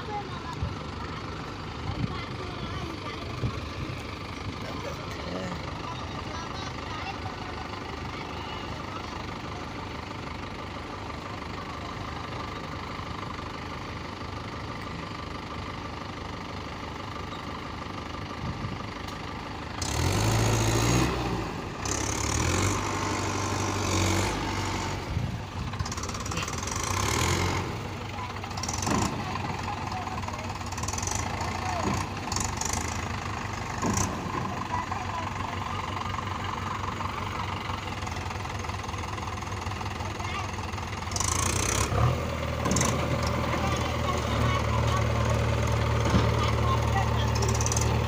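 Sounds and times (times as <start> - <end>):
tractor diesel engine labouring: 0.0 - 48.0.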